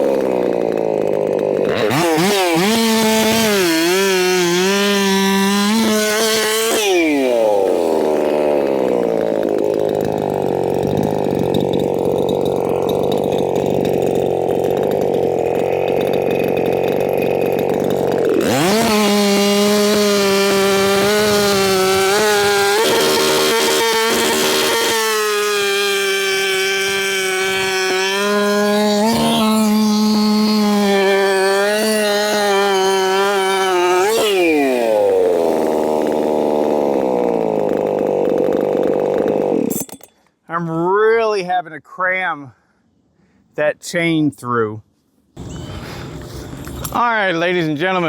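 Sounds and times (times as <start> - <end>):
chainsaw revving: 0.0 - 40.1, 45.4 - 48.0.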